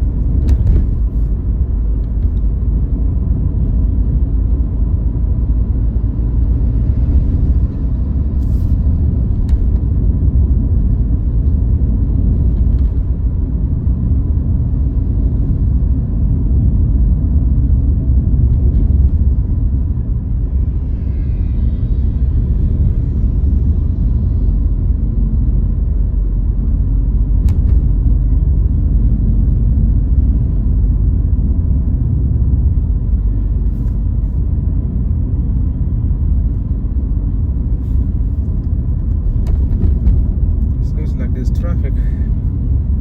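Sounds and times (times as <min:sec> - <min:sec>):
car driving rumble: 0:00.0 - 0:43.0.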